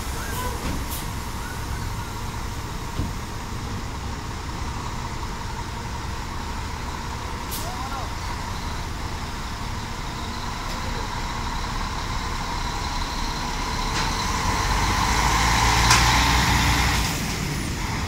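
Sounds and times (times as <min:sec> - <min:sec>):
bus diesel engine pulling away: 0:00.0 - 0:18.0.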